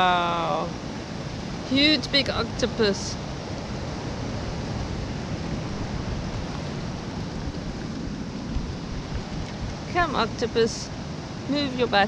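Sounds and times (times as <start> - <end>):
ocean surf on rocks: 0.0 - 12.0
wind on microphone: 0.0 - 12.0.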